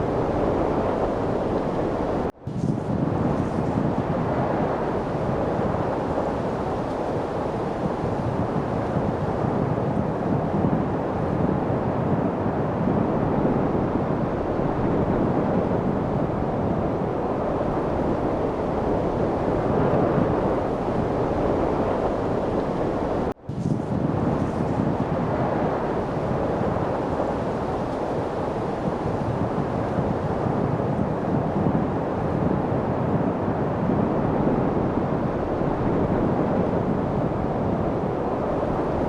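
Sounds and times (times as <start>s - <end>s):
wind blowing steadily: 0.0s - 39.0s.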